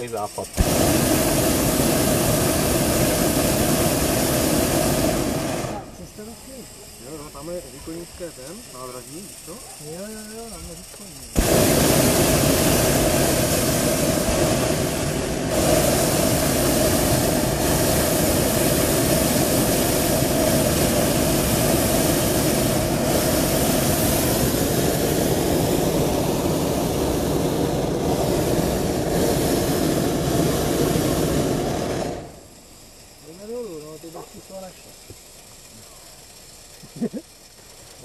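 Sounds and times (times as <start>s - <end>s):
propane burner firing: 0.0s - 38.0s.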